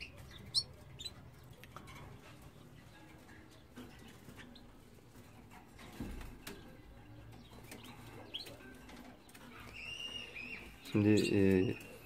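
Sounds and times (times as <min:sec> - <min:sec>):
canary chirps: 0:00.0 - 0:12.0.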